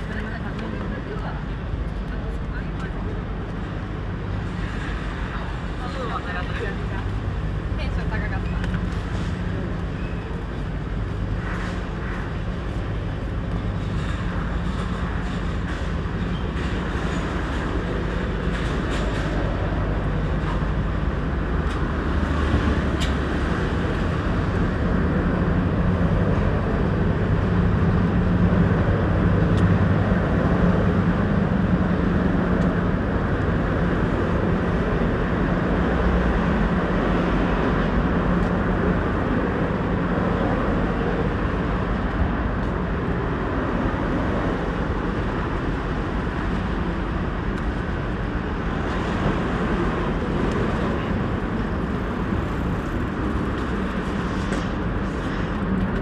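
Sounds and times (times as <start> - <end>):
busy street traffic: 0.0 - 56.0.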